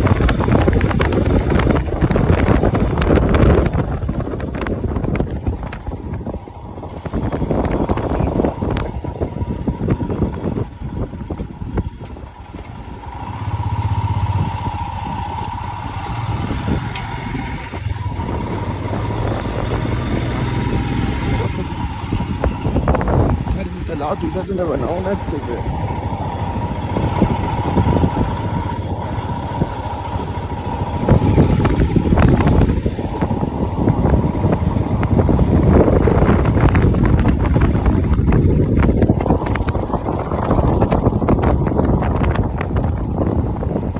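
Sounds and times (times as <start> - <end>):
steady whine: 0.0 - 43.9
vehicle engine running: 0.0 - 43.9
wind buffeting microphone: 0.0 - 43.9.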